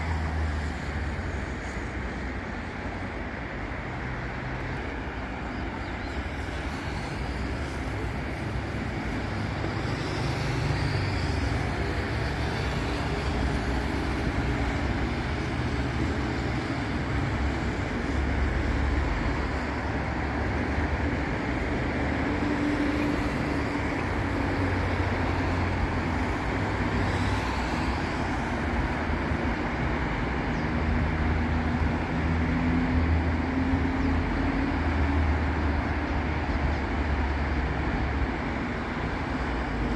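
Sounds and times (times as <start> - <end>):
city traffic passing: 0.0 - 39.9.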